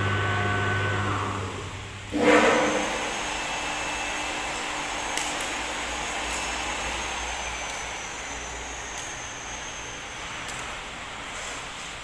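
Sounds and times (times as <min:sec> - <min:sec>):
motor hum: 0:00.0 - 0:10.8
whirring hiss: 0:00.0 - 0:11.3.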